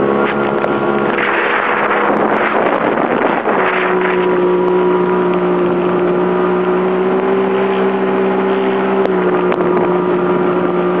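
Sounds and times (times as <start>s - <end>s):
jet ski engine droning: 0.0s - 11.0s
wind and water hissing: 0.0s - 11.0s.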